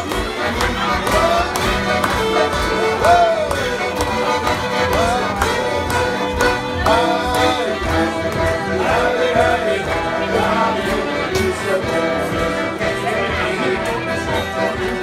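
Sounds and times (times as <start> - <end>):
accordion: 0.0 - 15.0
fiddle melody: 0.0 - 15.0
guitar: 0.0 - 15.0.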